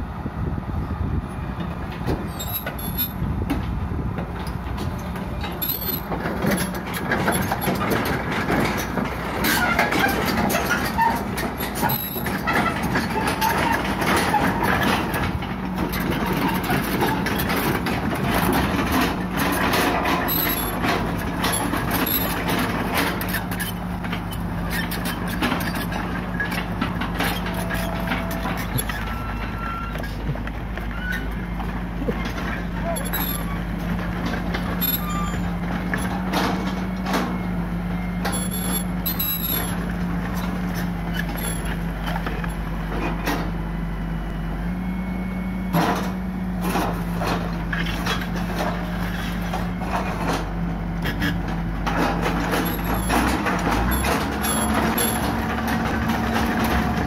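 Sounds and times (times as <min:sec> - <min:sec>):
excavator diesel engine under load: 0:00.0 - 0:57.0
steel tracks clanking on ramp: 0:01.6 - 0:37.4, 0:38.2 - 0:43.6, 0:45.7 - 0:57.0.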